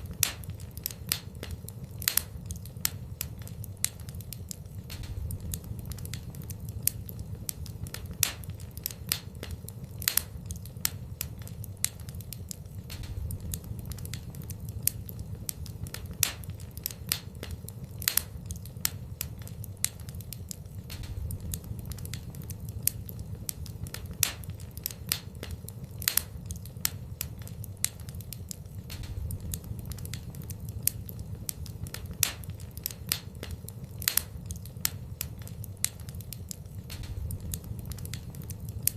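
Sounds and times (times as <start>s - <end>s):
fire crackling and popping: 0.0s - 38.9s
low fire rumble: 0.0s - 38.9s.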